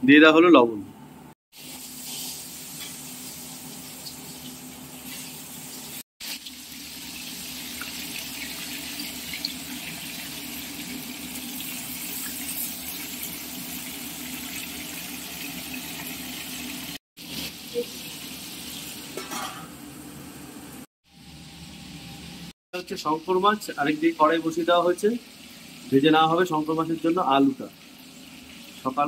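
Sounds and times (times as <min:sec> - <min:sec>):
hot oil sizzling: 0:01.5 - 0:29.0.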